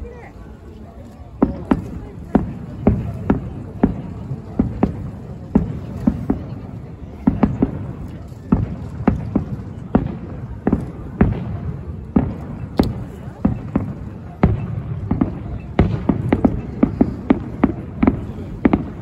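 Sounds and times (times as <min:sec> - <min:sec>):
fireworks booming: 0:01.3 - 0:19.0.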